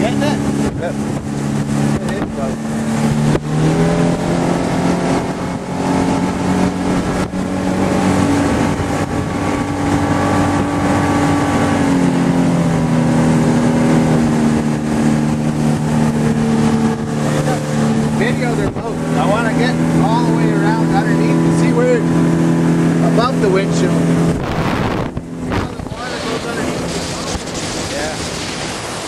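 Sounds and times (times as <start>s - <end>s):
outboard motor drone: 0.0s - 29.0s
wind and water rushing: 0.0s - 29.0s.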